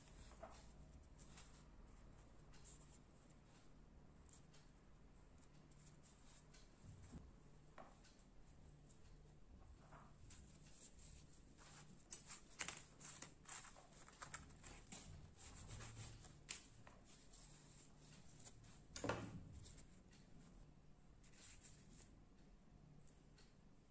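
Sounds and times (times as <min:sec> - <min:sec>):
faint clicks and light taps: 0:00.0 - 0:20.6, 0:21.2 - 0:23.7.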